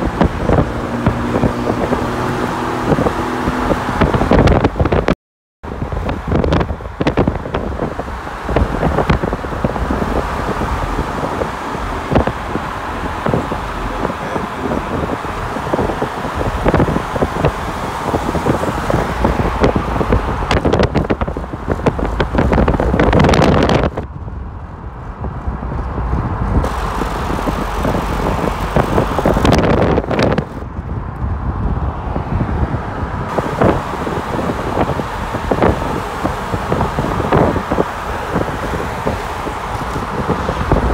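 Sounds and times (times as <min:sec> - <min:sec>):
low road rumble: 0:00.0 - 0:40.9
wind buffeting the microphone: 0:00.0 - 0:40.9.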